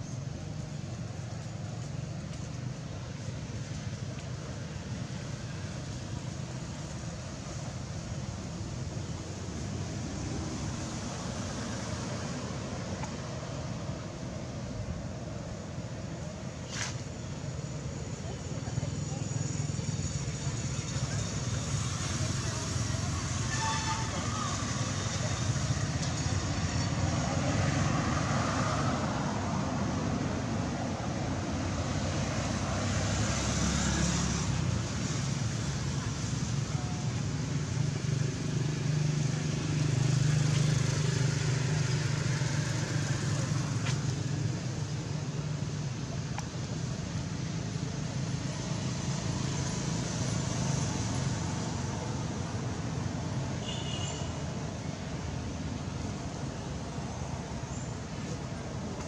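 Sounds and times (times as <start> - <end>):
outdoor rumble and hiss: 0.0 - 59.0.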